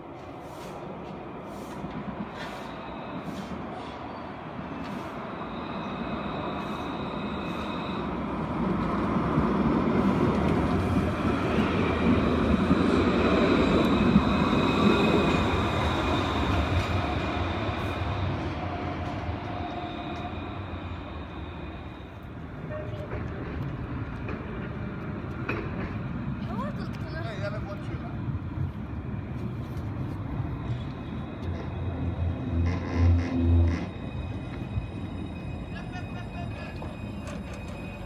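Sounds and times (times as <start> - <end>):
tram high whine: 0.0 - 38.0
tram wheels rumbling on rails: 0.0 - 38.0.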